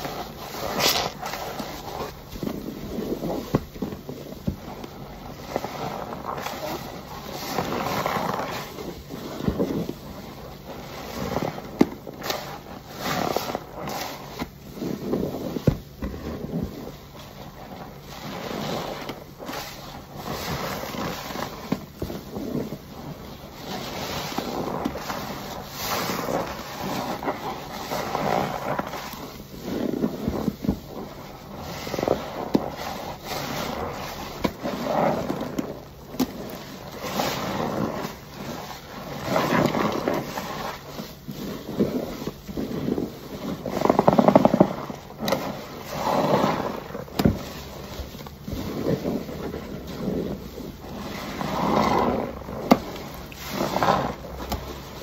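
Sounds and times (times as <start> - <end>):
wet sponge squelching: 0.0 - 55.0.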